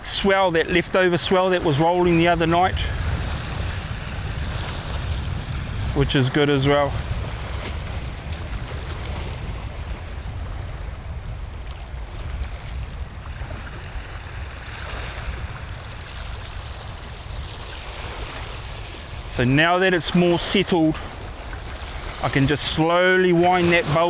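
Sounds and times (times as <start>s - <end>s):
waves washing over rocks: 0.0s - 24.0s
wind buffeting microphone: 0.0s - 24.0s.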